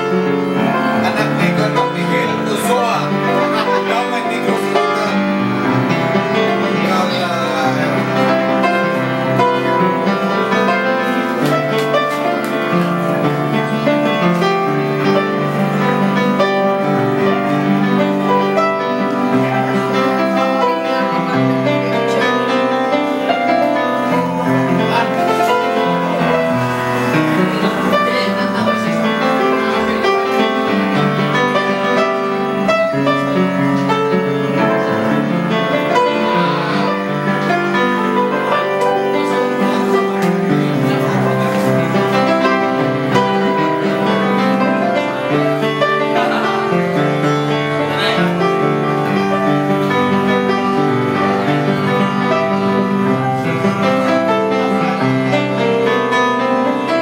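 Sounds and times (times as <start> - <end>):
upright piano playing: 0.0 - 57.0.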